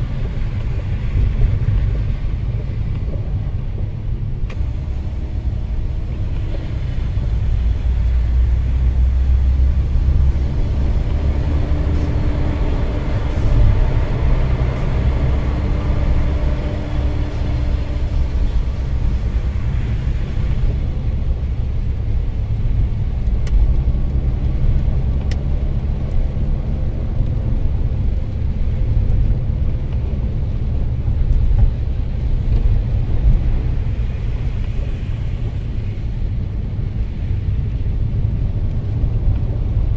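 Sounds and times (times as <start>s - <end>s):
car road noise rumble: 0.0s - 39.9s
tyres hissing on wet road: 0.0s - 39.9s.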